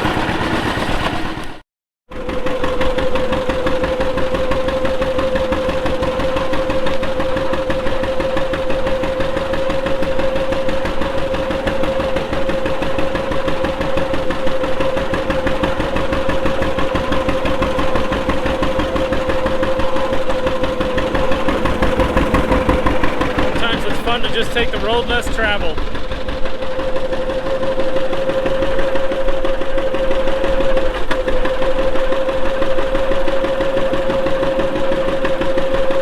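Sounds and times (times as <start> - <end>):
engine whine: 0.0 - 36.0
old tractor engine running: 0.0 - 36.0.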